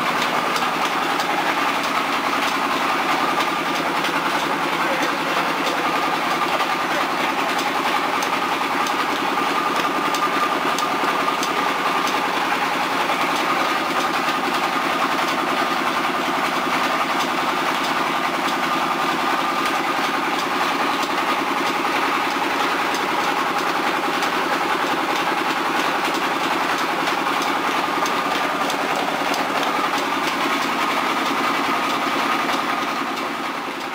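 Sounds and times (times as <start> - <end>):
mill machinery drone: 0.0 - 33.9.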